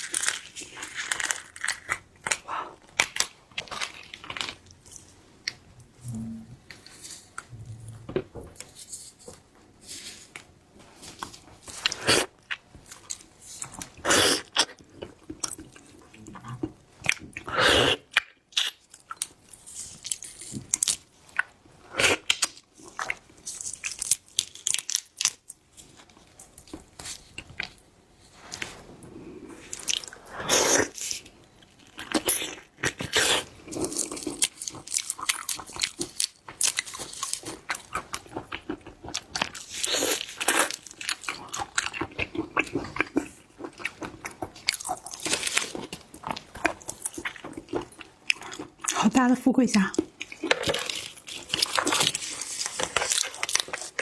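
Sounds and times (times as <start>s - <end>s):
crunchy chewing of seafood: 0.0s - 5.7s, 8.6s - 27.9s, 28.5s - 49.0s, 49.9s - 54.0s.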